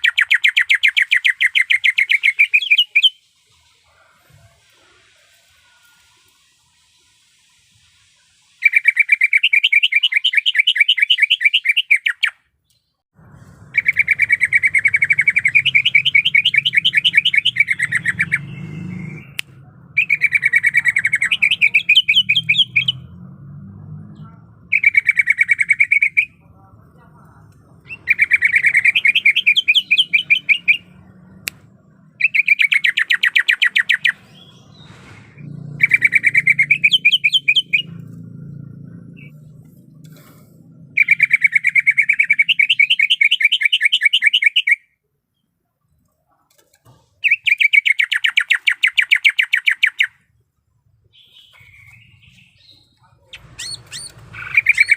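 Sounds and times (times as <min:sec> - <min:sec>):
bird singing trilled notes: 0:00.0 - 0:03.7, 0:08.6 - 0:13.0, 0:13.7 - 0:26.6, 0:27.6 - 0:40.0, 0:40.7 - 0:45.5, 0:47.2 - 0:50.4, 0:51.1 - 0:54.9.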